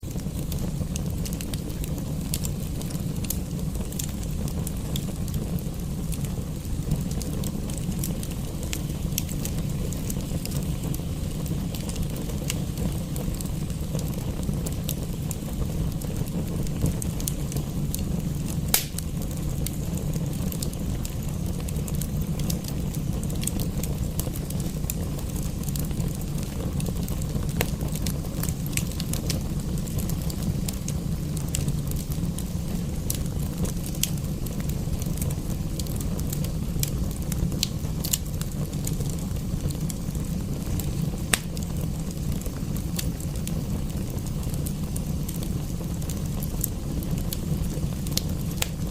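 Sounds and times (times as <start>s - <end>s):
low fire rumble: 0.0s - 48.9s
wood fire crackling and popping: 0.0s - 48.9s.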